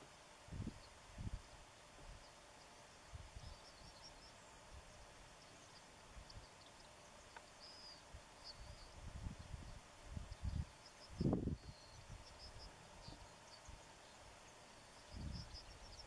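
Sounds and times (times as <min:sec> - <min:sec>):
songbirds chirping: 0:00.0 - 0:16.0
steady outdoor hiss: 0:00.0 - 0:16.0.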